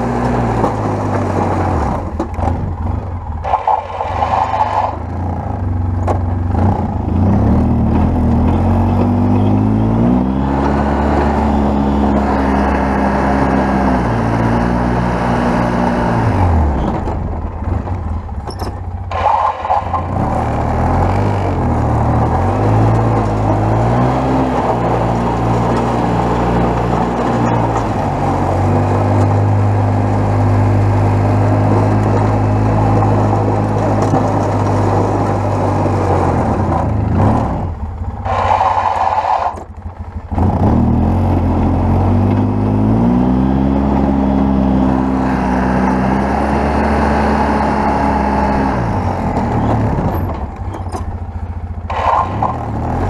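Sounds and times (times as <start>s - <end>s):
quad bike engine revving: 0.0s - 53.0s.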